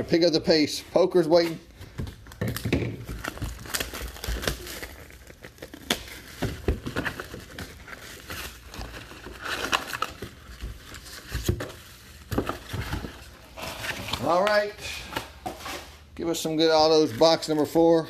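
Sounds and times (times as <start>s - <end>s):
wrappers crinkling and rustling: 0.1s - 18.0s.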